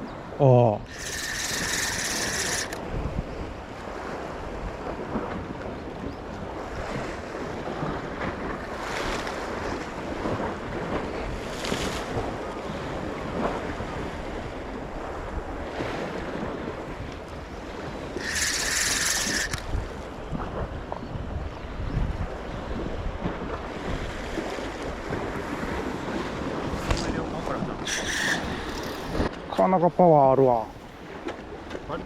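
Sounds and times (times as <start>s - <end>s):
wind buffeting the microphone: 0.0s - 29.8s
sea waves on a rocky shore: 0.0s - 32.0s.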